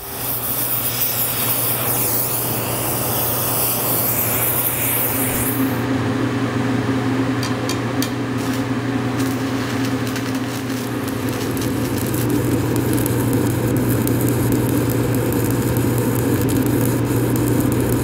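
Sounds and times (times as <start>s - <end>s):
welding arc crackling: 0.0s - 5.8s, 8.0s - 18.0s
torch flame hissing: 0.0s - 5.9s, 8.3s - 18.0s.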